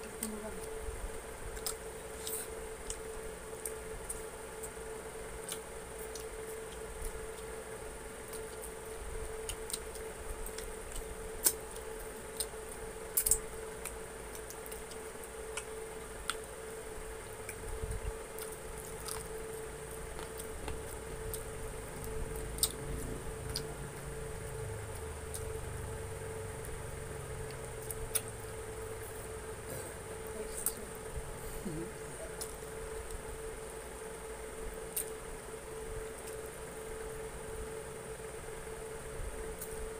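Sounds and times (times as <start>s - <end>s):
steady faint hum: 0.0s - 39.9s.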